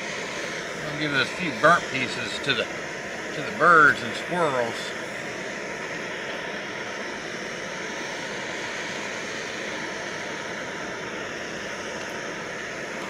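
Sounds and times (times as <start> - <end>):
camp stove burner hissing: 0.0 - 13.0.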